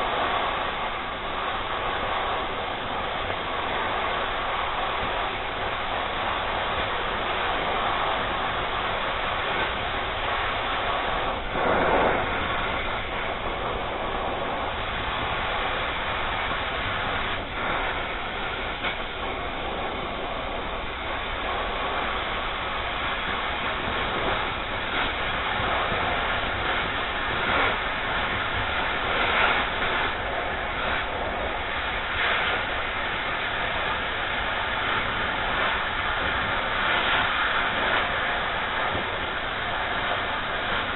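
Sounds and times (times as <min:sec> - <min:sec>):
cutting torch hissing: 0:00.0 - 0:40.9.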